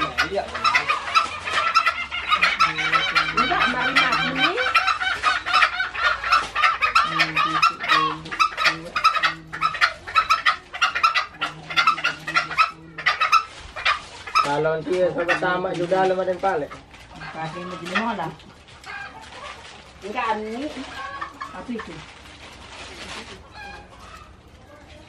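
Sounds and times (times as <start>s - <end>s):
fowl clucking: 0.0s - 22.1s, 23.0s - 24.5s
high chirps chatter: 0.0s - 25.0s.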